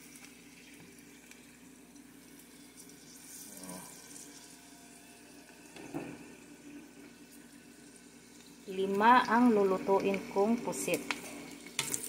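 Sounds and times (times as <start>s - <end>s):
faint sizzle with light crackling: 0.0s - 12.0s
squid frying in oil: 0.0s - 12.0s.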